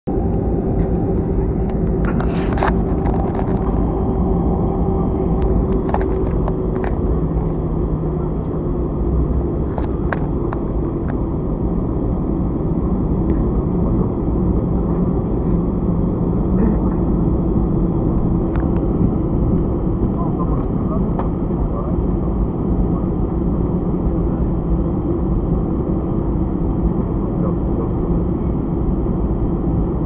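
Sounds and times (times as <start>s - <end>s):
aircraft rolling: 0.1s - 30.0s
jet engines idling: 0.1s - 30.0s.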